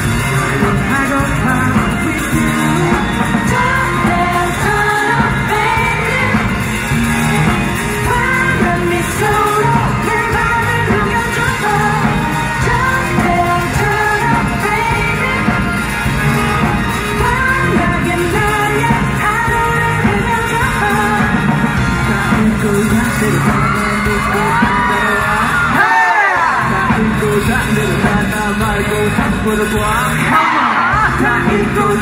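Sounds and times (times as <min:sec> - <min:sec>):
live pop-rock band: 0:00.0 - 0:32.0
person singing: 0:00.0 - 0:32.0.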